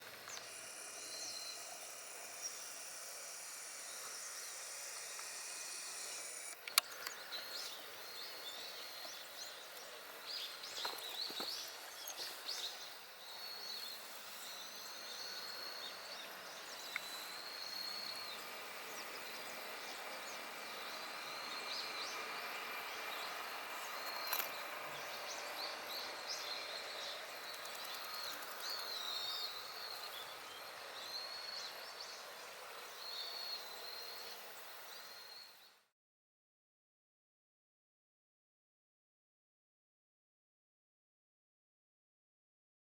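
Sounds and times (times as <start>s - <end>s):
high insect buzz: 0.0s - 35.7s
small birds chirping: 0.0s - 35.8s.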